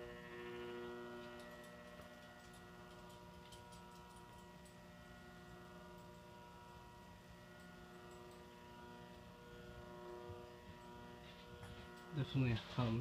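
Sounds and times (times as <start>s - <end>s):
ceiling fan electrical hum: 0.0s - 13.0s.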